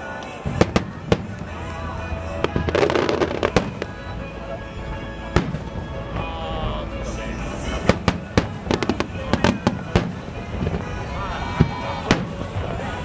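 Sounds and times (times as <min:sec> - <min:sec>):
crackling firework reports: 0:00.0 - 0:06.3, 0:07.0 - 0:13.0
music playing: 0:00.0 - 0:13.0.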